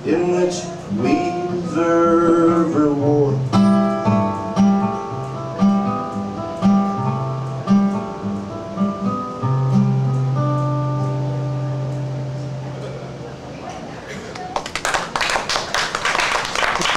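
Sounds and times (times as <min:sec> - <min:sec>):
acoustic guitar chords: 0:00.0 - 0:13.6.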